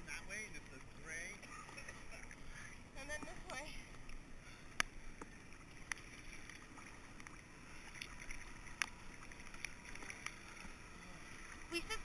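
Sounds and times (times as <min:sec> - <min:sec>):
water lapping and splashing: 0:00.0 - 0:12.0.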